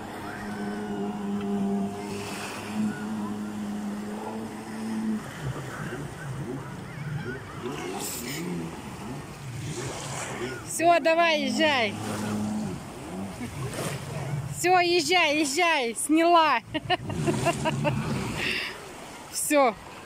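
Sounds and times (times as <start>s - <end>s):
jet ski engine: 0.0s - 20.0s.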